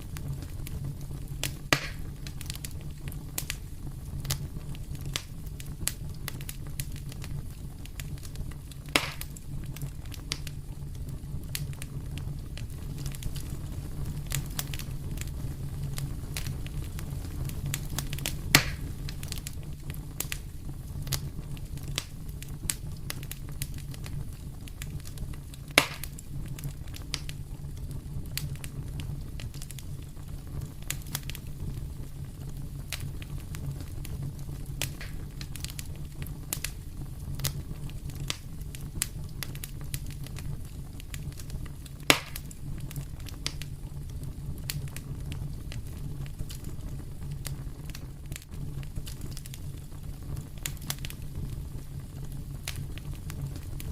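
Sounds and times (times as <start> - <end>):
loud fire pops: 0.0 - 53.9
wood fire crackling: 0.0 - 53.9.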